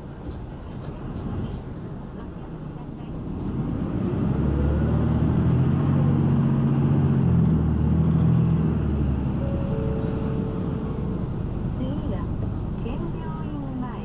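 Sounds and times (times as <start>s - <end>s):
bus engine revving: 0.9s - 14.0s.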